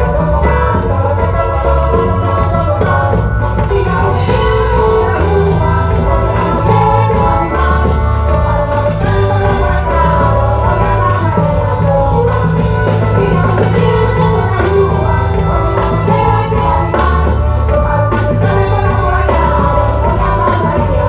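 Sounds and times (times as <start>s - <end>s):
fast even percussion: 0.0s - 21.0s
live band playing: 0.0s - 21.0s
person singing: 0.0s - 21.0s
steady bass line: 0.0s - 21.0s.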